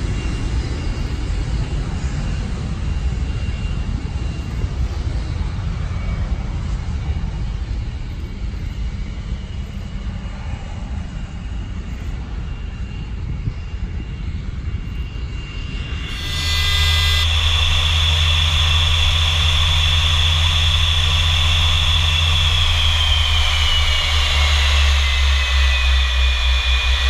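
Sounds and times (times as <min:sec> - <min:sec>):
jet engines droning and whining: 0:00.0 - 0:27.0
wind rumble on microphone: 0:00.0 - 0:27.0.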